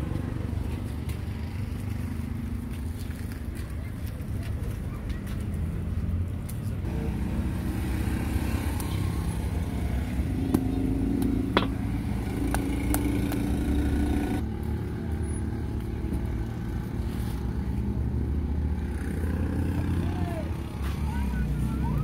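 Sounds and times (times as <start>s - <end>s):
engine running nearby: 0.0s - 22.0s
street traffic rumble: 0.0s - 22.0s.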